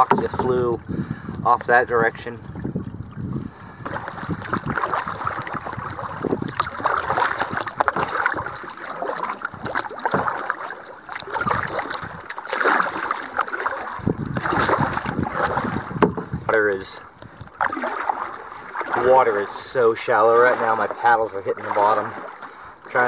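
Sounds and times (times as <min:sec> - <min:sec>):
wind on microphone: 0:00.0 - 0:19.4
paddle splashing water: 0:00.0 - 0:23.0.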